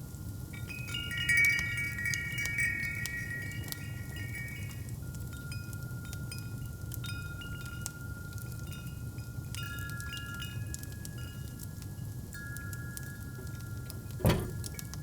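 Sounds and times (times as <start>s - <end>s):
wind chimes ringing: 0.6s - 14.9s.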